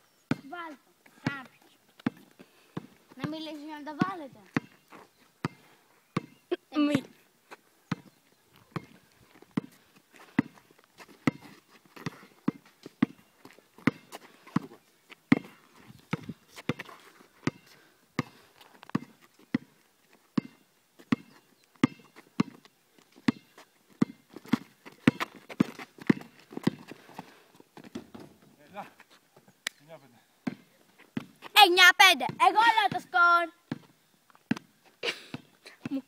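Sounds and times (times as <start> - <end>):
basketball bouncing on asphalt: 0.3 - 0.6, 1.2 - 7.2, 7.9 - 19.8, 20.4 - 28.4, 30.4 - 31.5, 32.2 - 36.0.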